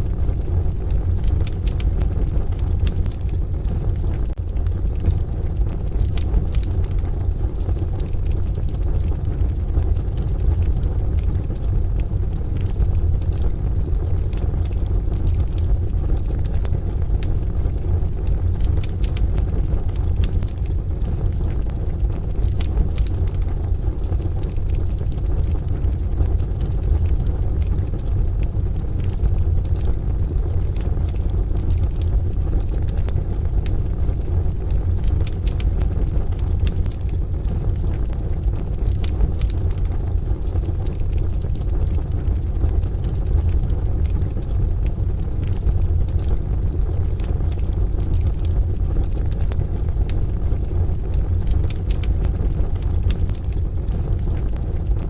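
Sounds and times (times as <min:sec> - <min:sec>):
rain: 0:00.0 - 0:55.0
wood fire crackling: 0:00.0 - 0:55.0.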